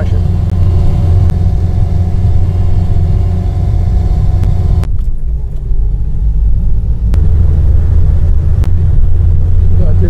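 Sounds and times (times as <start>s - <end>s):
vehicle engine labouring: 0.0s - 10.0s.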